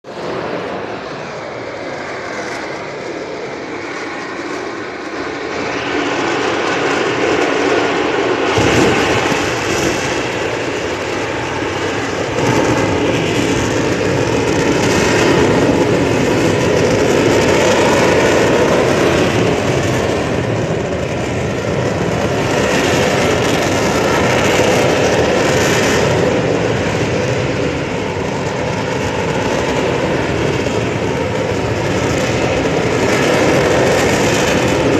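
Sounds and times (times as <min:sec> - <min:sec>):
blast furnace roaring: 0:00.0 - 0:34.9.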